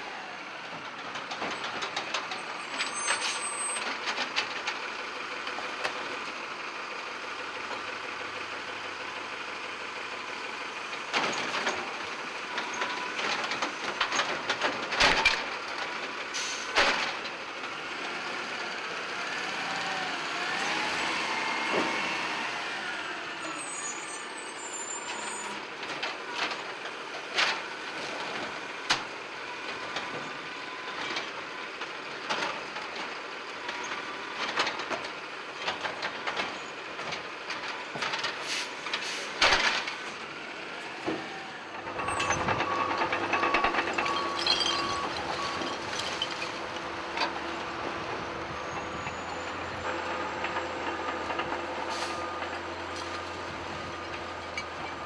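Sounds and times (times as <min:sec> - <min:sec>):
garbage truck engine running: 0:00.2 - 0:55.0.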